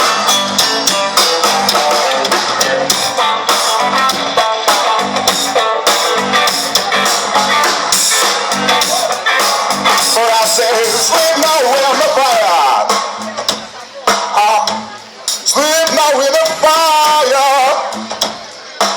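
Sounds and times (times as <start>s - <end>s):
band playing guitar: 0.0s - 18.9s
steady drum beat: 0.0s - 18.9s.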